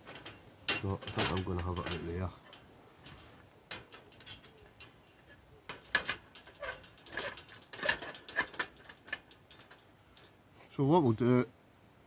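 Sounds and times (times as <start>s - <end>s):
metallic knocks: 0.0s - 10.3s
metal stove panels clinking: 0.0s - 10.4s.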